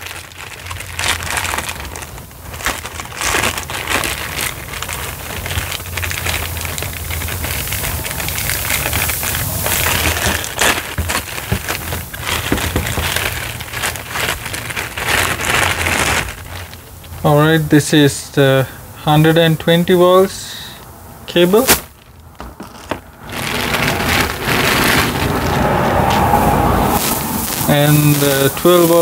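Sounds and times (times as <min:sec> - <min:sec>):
plastic bag crinkling: 0:00.0 - 0:17.2, 0:21.3 - 0:29.0.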